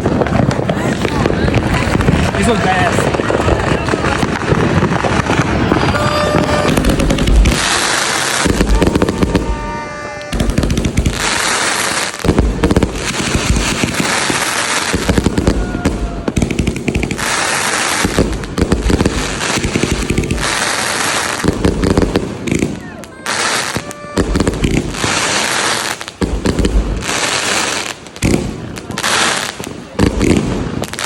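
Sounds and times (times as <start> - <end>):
firework bursting reports: 0.0 - 31.0
firework crackling: 0.0 - 31.0.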